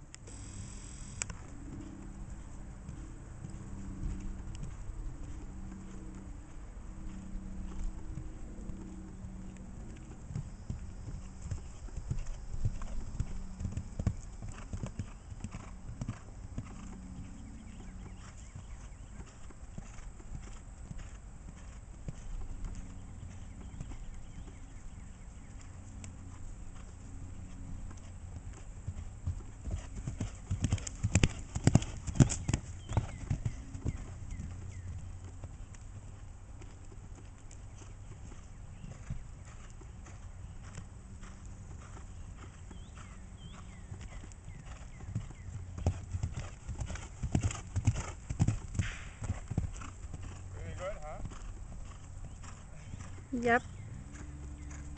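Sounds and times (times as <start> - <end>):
horse hoofbeats on grass: 1.3 - 54.9.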